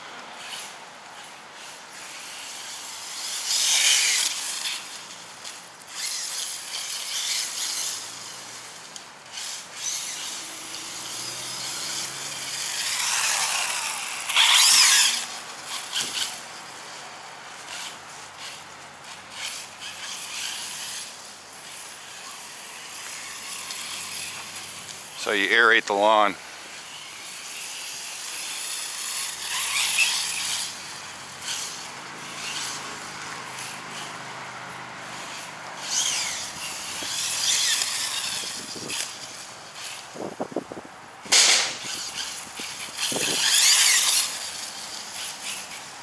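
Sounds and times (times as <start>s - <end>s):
electric motor whining: 0.4s - 46.0s.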